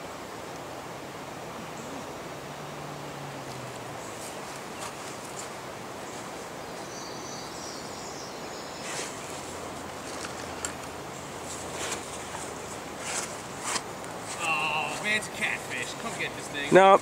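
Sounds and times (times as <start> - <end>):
creek water rushing over dam: 0.0 - 17.0.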